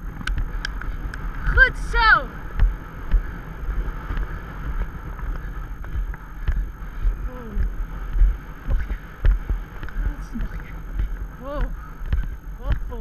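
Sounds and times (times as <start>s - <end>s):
horse hooves thudding on sand: 0.0s - 1.7s, 2.3s - 13.0s
wind on microphone: 0.0s - 13.0s.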